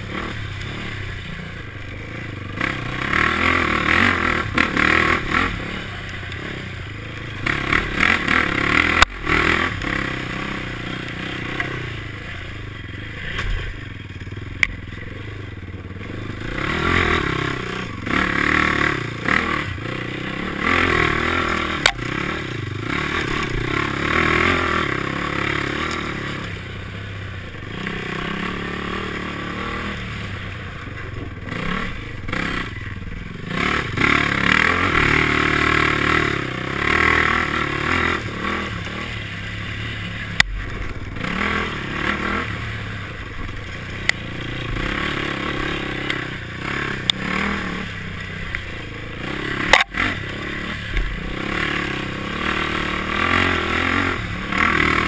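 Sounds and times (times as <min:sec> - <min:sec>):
clatter and scraping on rough ground: 0:00.0 - 0:55.0
quad engine revving: 0:00.0 - 0:55.0.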